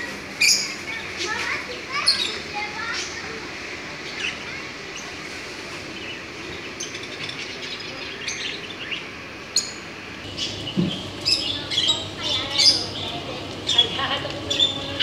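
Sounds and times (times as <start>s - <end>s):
steady background hum: 0.0s - 15.0s
small birds chirping: 0.3s - 15.0s.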